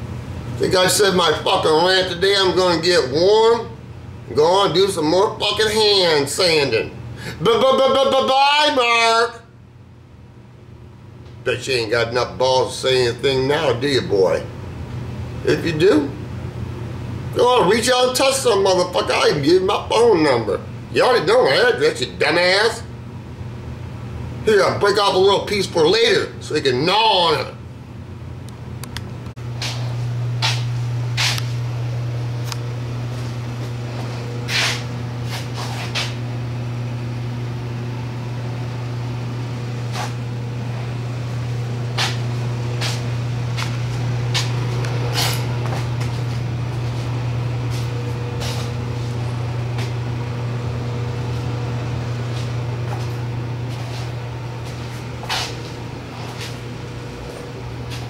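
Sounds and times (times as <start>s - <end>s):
machine humming: 0.0s - 58.0s.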